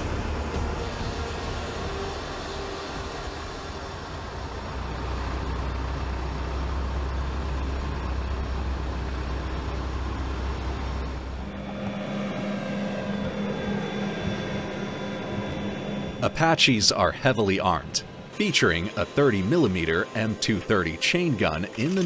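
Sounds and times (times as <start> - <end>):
tow tractor engine rumble: 0.0 - 21.8
machine hum droning: 0.0 - 22.0.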